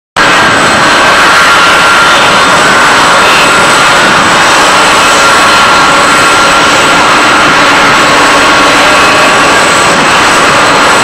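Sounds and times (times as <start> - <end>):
jet airliner taxiing: 0.2 - 11.0.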